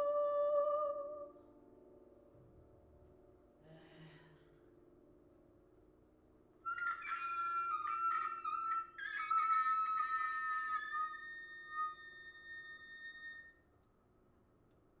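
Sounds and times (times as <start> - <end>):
grand piano notes and chords: 0.0 - 13.1.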